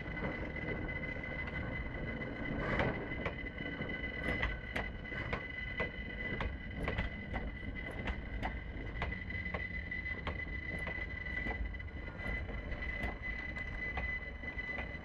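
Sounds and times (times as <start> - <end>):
low rumble of train: 0.0 - 15.0
steady high whine: 0.0 - 15.0.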